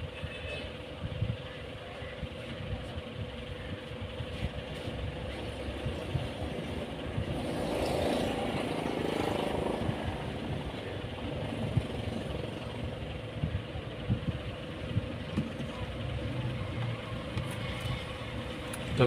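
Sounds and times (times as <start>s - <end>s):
low mechanical rumble with hiss: 0.0s - 19.0s.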